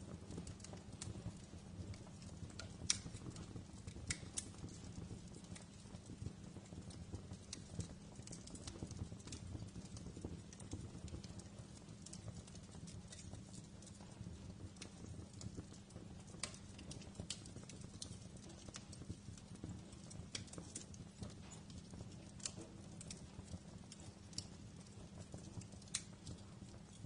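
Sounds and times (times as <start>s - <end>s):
wood fire crackling in fireplace: 0.0s - 27.0s.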